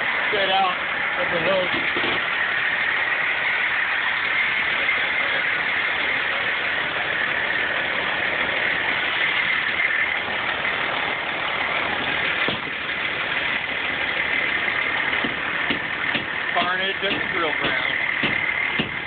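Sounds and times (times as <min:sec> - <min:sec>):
fire engine idling: 0:00.0 - 0:19.0
high-pitched whine: 0:00.0 - 0:19.0.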